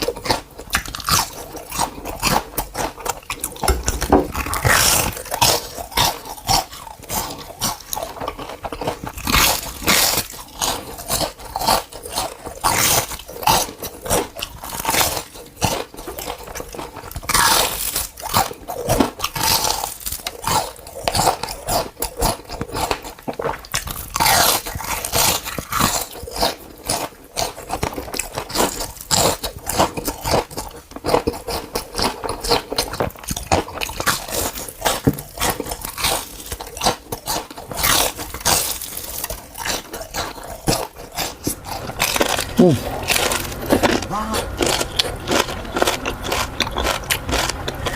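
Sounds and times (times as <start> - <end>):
chewing crunchy food: 0.0 - 47.9.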